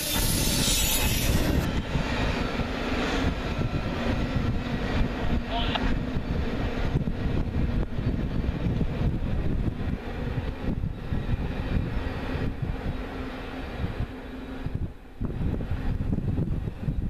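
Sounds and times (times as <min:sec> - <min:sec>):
freight train rumbling: 0:00.0 - 0:17.0
wind buffeting microphone: 0:00.0 - 0:17.0.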